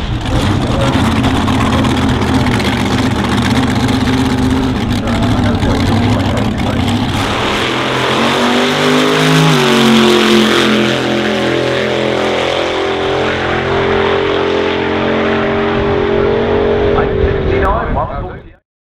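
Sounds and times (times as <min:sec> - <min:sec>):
dragster engine at full throttle: 0:00.0 - 0:18.0.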